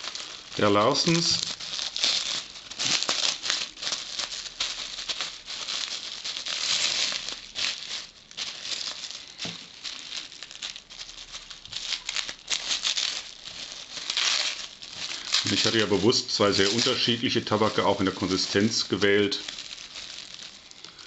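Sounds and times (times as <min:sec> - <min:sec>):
plastic wrapping crinkling: 0:00.0 - 0:21.0.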